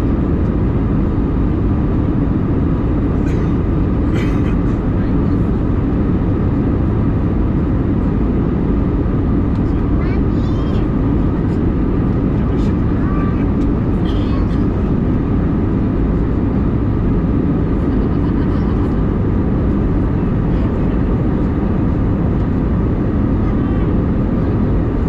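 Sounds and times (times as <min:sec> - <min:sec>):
airplane cabin engine and airflow noise: 0:00.0 - 0:25.0.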